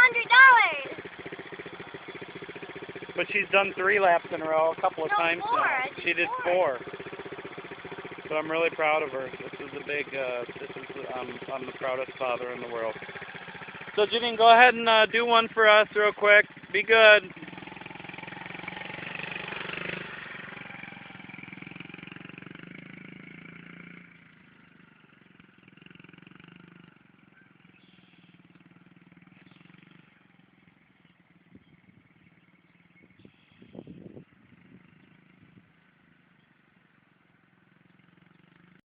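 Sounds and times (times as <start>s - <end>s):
dirt bike engine running: 0.0s - 38.8s.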